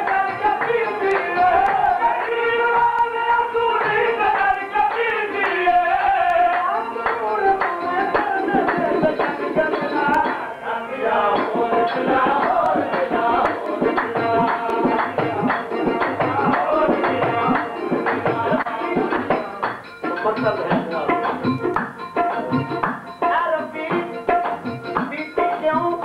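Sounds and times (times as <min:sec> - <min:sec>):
hand drums: 0:00.0 - 0:10.5, 0:11.2 - 0:26.0
lead voice singing: 0:00.0 - 0:20.4, 0:23.2 - 0:26.0
harmoniums: 0:00.0 - 0:26.0.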